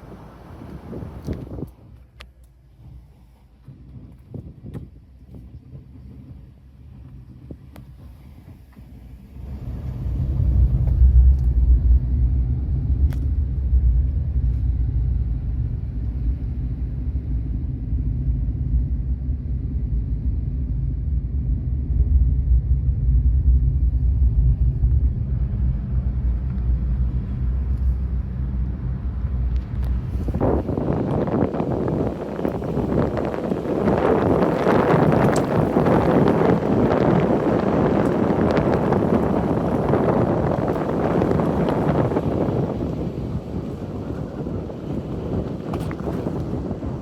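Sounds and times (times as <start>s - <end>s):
car driving rumble: 0.0s - 47.0s.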